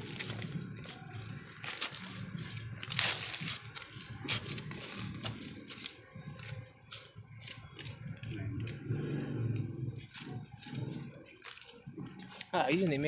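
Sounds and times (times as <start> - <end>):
hand tool scraping soil: 0.0 - 8.8, 9.9 - 12.9.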